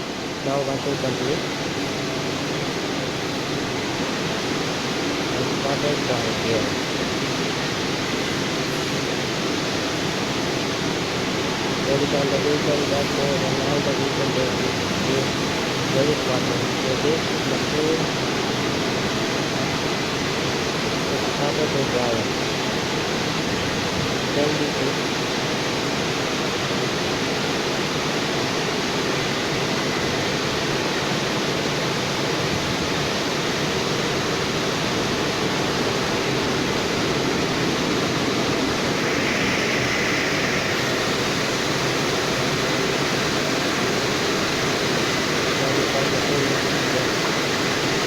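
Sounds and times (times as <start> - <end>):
drying blowers rushing air: 0.0 - 26.3, 26.9 - 48.0.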